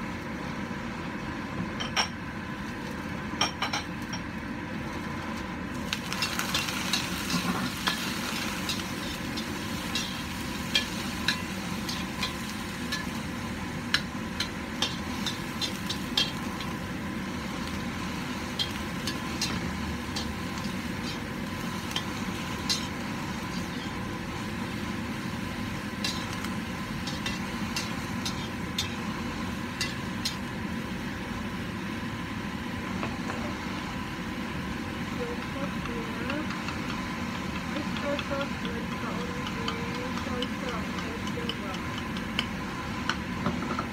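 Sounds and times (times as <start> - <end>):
vegetables sizzling in a wok: 0.0 - 43.9.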